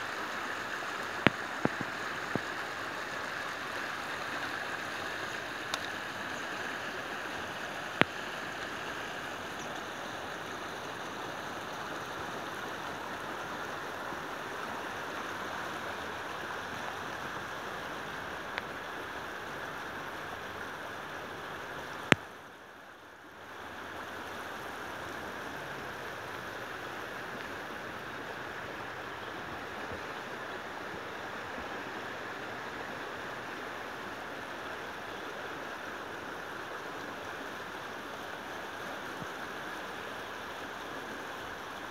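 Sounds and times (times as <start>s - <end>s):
fast-flowing river water: 0.0s - 41.9s.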